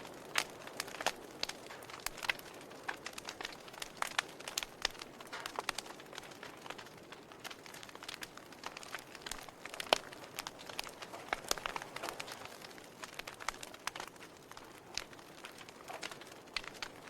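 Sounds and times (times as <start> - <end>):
logs crackling and snapping: 0.0 - 17.0
wood fire hissing: 0.0 - 17.0.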